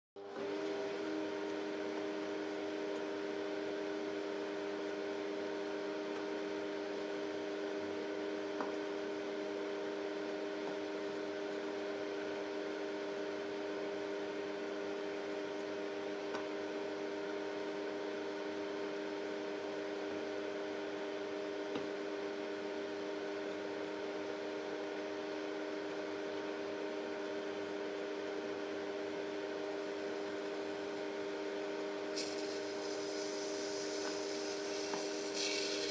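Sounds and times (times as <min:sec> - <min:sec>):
microwave oven humming: 0:00.2 - 0:35.9.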